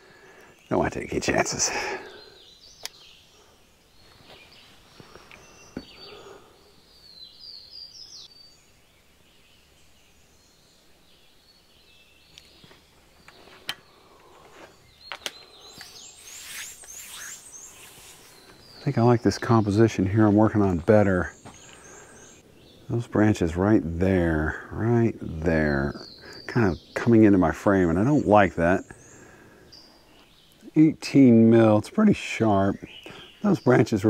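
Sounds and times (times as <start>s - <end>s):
songbird singing faintly: 0.0s - 34.0s.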